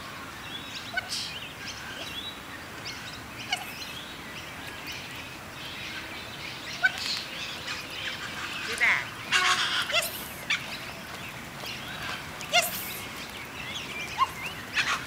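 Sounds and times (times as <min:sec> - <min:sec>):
steady outdoor hiss: 0:00.0 - 0:15.0
wild birds chirping: 0:00.0 - 0:15.0.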